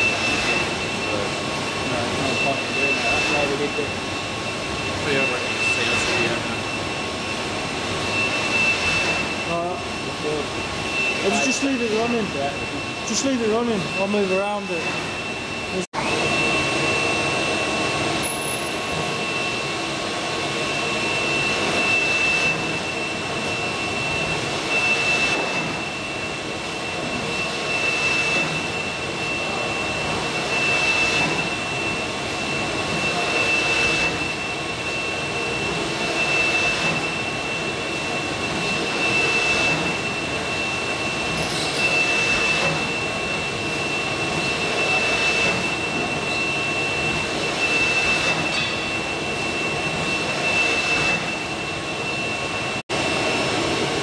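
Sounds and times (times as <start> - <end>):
robot machine whine: 0.0 - 53.4.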